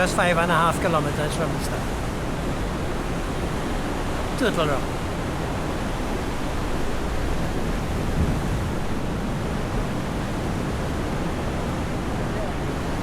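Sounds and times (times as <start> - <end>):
ocean surf: 0.0 - 13.0
wind buffeting microphone: 0.0 - 13.0.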